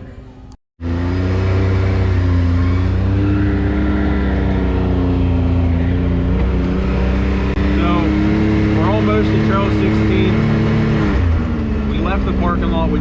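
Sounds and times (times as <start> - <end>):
engine running steadily: 0.8 - 13.0.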